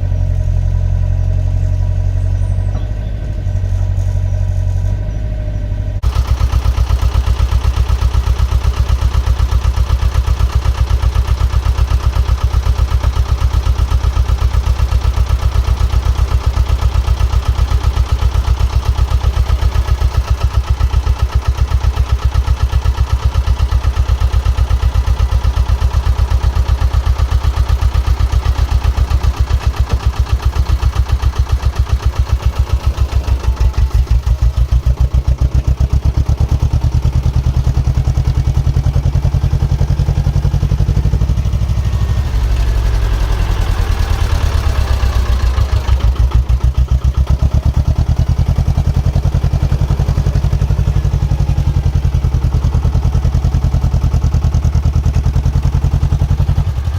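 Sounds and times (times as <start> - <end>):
diesel engine running: 0.0 - 56.9
rattling: 6.0 - 54.3.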